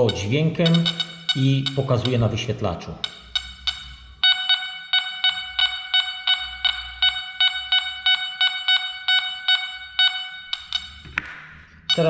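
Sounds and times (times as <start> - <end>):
metal detector beeping: 0.0 - 11.0.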